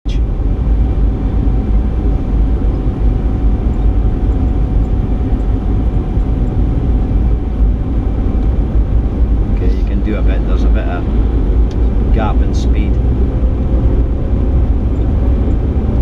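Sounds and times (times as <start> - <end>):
car interior road rumble: 0.1 - 16.0.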